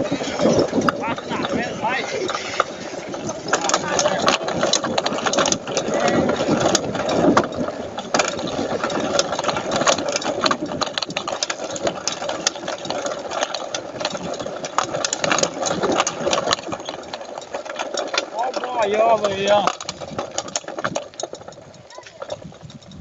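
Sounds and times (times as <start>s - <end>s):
clattering rattles and knocks: 0.0s - 23.0s
small engine running: 0.0s - 23.0s.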